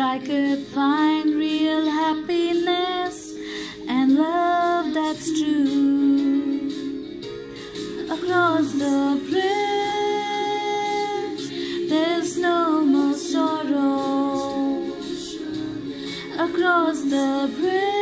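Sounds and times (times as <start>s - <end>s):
woman singing: 0.0s - 7.1s, 8.1s - 15.4s, 16.0s - 18.0s
backing music: 0.0s - 18.0s.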